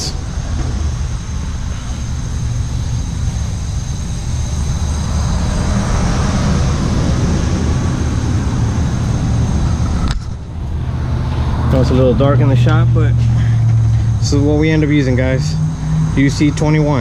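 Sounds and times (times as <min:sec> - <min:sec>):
faint high whine: 0:00.0 - 0:17.0
machine rumble: 0:00.0 - 0:17.0.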